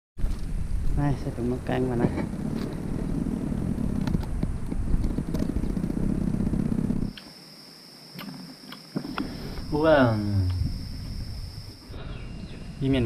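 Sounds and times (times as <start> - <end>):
wind buffeting microphone: 0.2 - 7.2, 9.1 - 13.0
insect trill: 1.0 - 13.0.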